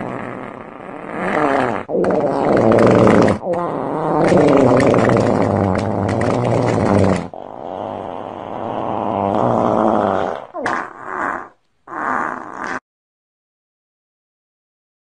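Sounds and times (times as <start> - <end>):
loud farting: 0.0 - 12.8.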